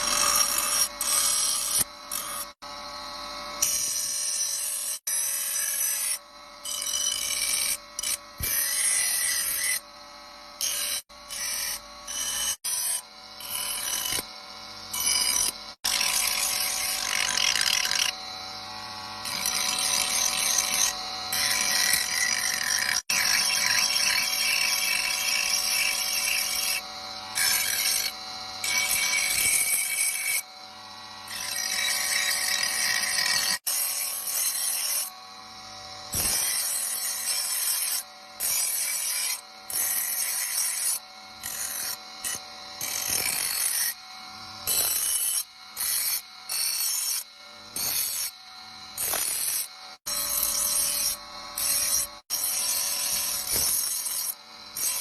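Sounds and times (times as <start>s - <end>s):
grinder motor hum: 0.0s - 55.0s
grinder scraping steel blade: 0.0s - 55.0s.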